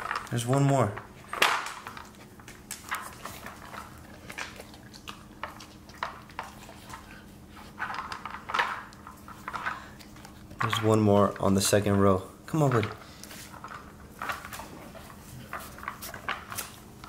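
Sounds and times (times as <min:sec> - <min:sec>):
dog chewing treat: 0:00.0 - 0:11.8, 0:12.7 - 0:17.0.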